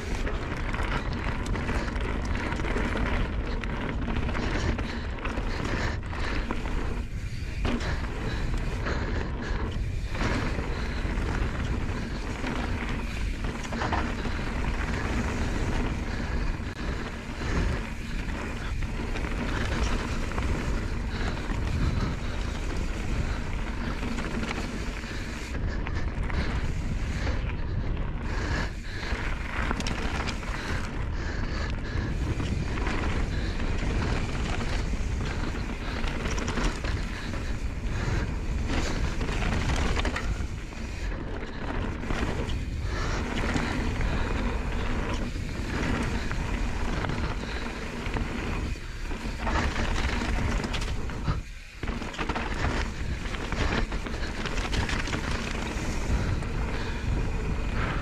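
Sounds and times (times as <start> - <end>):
tyres rolling over gravel: 0.0 - 58.0
wind buffeting microphone: 0.0 - 58.0.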